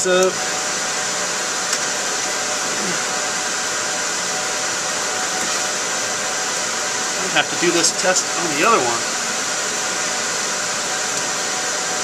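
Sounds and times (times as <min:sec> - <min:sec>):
server cooling fans running: 0:00.0 - 0:12.0.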